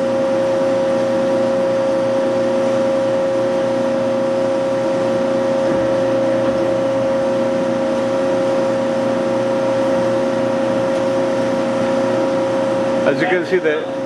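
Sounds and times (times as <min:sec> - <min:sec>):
bandsaw running with high whine: 0:00.0 - 0:14.0.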